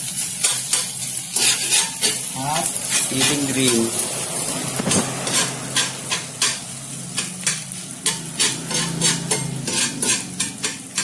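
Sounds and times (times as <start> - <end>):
meat sizzling in a pan: 0.0 - 11.0
spoon scraping a pan: 0.1 - 11.0.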